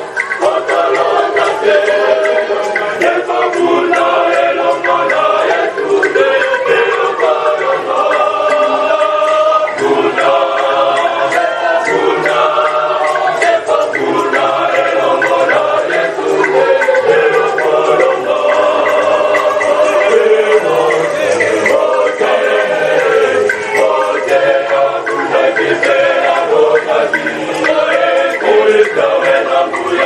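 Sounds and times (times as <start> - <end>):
choir singing in harmony: 0.0 - 30.0.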